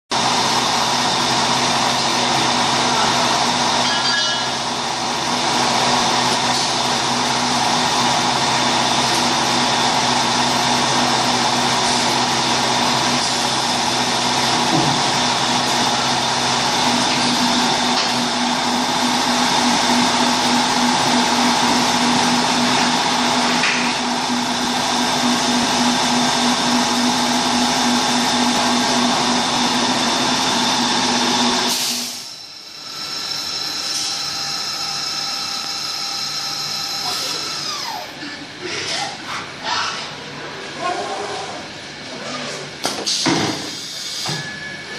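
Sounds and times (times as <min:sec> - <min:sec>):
milling machine whirring: 0:00.2 - 0:38.3.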